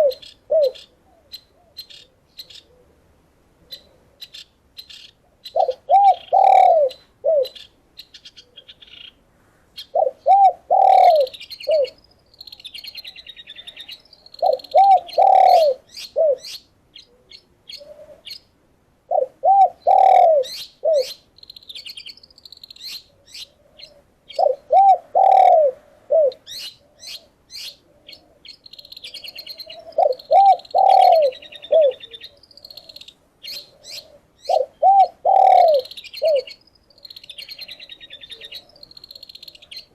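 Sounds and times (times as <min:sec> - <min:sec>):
small songbirds chirping: 0:00.0 - 0:02.8, 0:03.7 - 0:18.6, 0:19.2 - 0:25.6, 0:26.3 - 0:39.9
dove cooing: 0:00.0 - 0:03.0, 0:05.5 - 0:07.6, 0:09.9 - 0:18.4, 0:19.1 - 0:21.2, 0:23.1 - 0:39.9.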